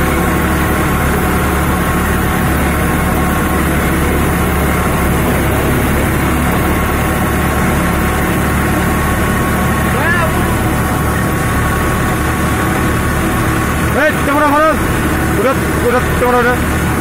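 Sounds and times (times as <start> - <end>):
low engine hum: 0.0 - 17.0
thresher mechanical drone: 0.0 - 17.0.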